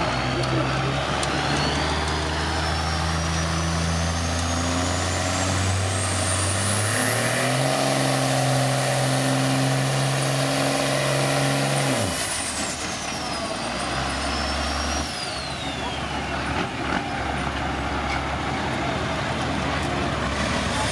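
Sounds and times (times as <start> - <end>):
diesel pickup engine under load: 0.0 - 20.9.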